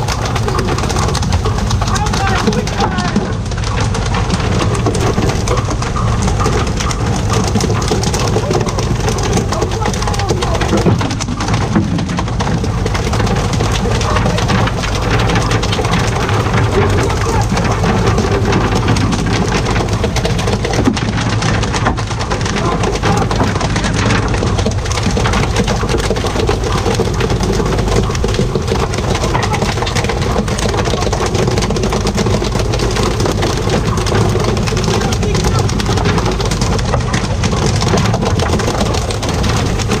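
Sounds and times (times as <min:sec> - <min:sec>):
boat engine hum: 0:00.0 - 0:40.0
water spraying and splashing: 0:00.0 - 0:40.0.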